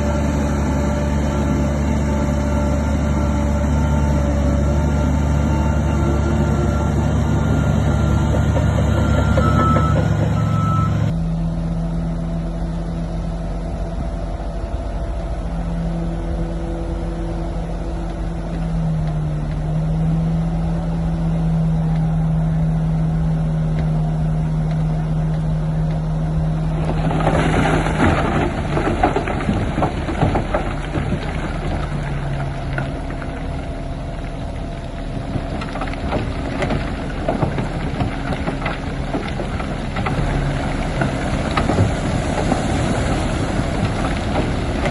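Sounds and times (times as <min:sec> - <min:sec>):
diesel engine humming: 0:00.0 - 0:44.9.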